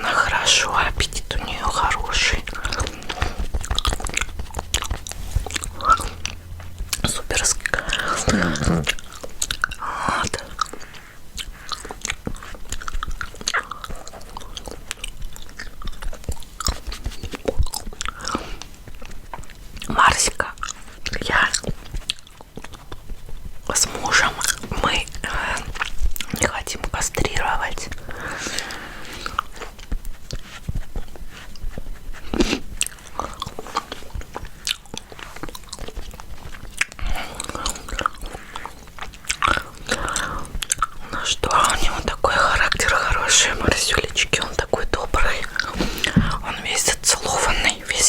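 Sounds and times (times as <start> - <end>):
gum chewing clicks and smacks: 0.0 - 48.0.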